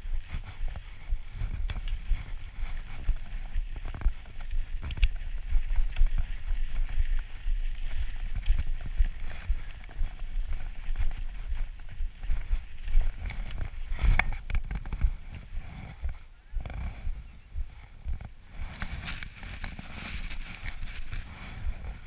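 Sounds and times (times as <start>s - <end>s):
wind rumble on microphone: 0.0s - 22.0s
bike rattling over bumps: 0.2s - 17.0s, 18.0s - 22.0s.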